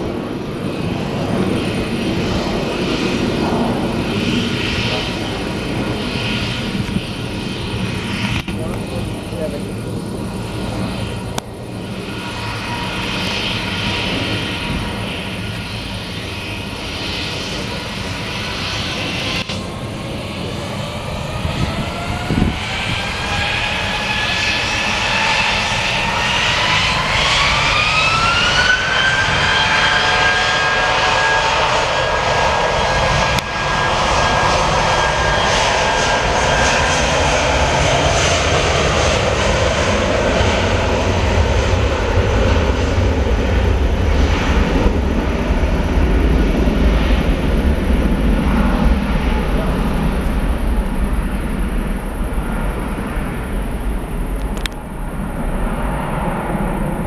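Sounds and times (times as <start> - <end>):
deep jet roar: 0.0 - 57.0
jet engine whine rising: 0.0 - 57.0.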